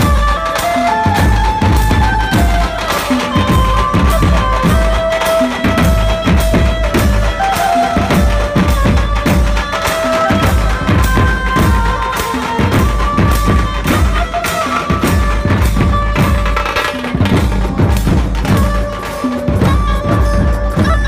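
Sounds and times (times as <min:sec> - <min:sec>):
band music with drums: 0:00.0 - 0:21.0
drums beating steady rhythm: 0:00.0 - 0:21.0.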